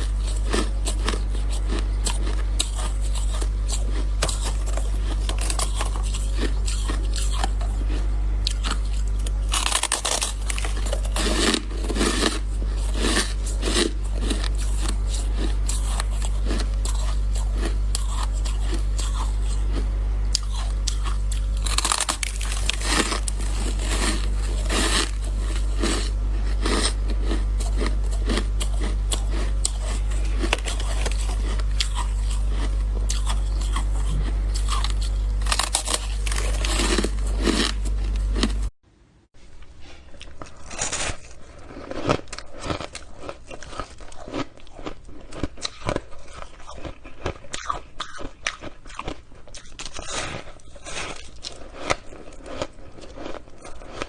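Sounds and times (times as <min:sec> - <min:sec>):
crunching and chewing ice: 0:00.0 - 0:38.8, 0:39.9 - 0:54.0
steady low hum: 0:00.0 - 0:54.0.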